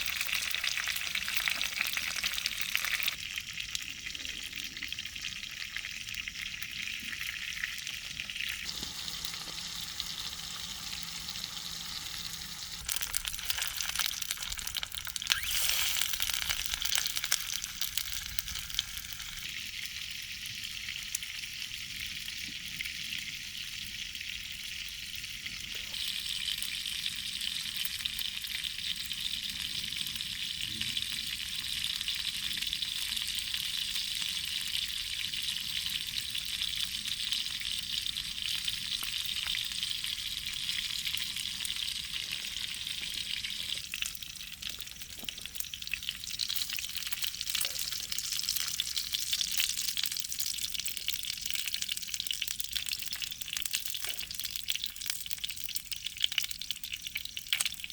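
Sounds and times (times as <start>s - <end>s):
crackling of frying food: 0.0s - 57.9s
food sizzling in a pan: 0.0s - 57.9s.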